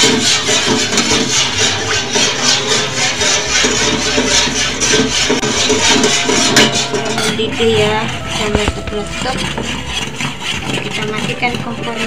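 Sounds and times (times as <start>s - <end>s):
metal spoon scraping a pot: 0.0s - 12.0s.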